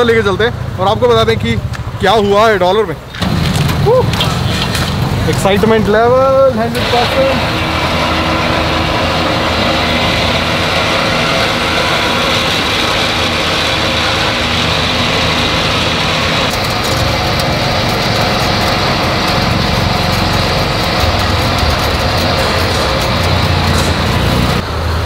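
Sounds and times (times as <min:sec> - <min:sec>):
tow truck engine running: 0:00.0 - 0:25.0.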